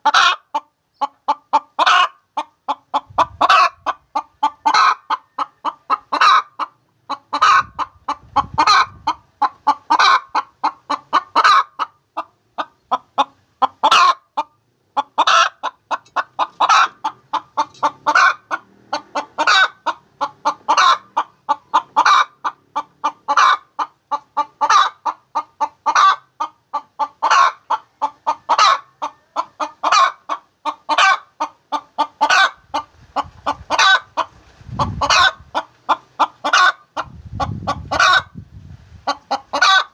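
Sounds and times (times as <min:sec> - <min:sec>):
hen cackling: 0:00.0 - 0:38.4, 0:39.0 - 0:39.9.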